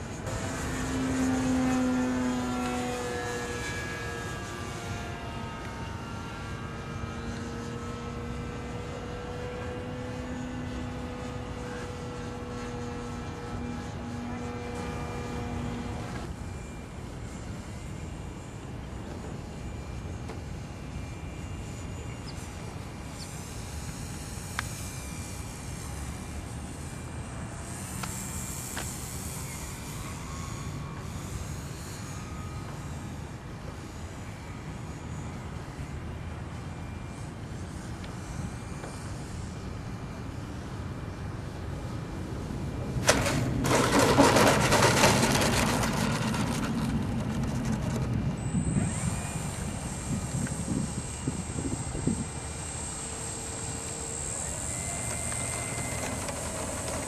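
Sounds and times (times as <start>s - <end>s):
model plane motor whine: 0.0s - 57.0s.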